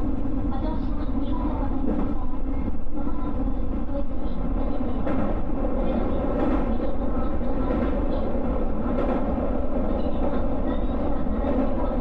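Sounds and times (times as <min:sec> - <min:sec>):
constant train hum: 0:00.0 - 0:12.0
train wheels rumbling on rail: 0:00.0 - 0:12.0.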